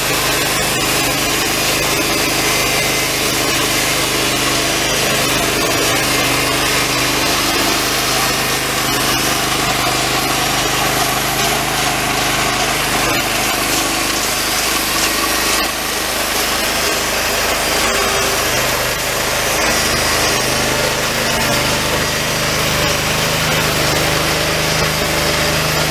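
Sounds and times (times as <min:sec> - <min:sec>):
band sawmill sawing log: 0:00.0 - 0:25.9
engine running under load: 0:00.0 - 0:25.9.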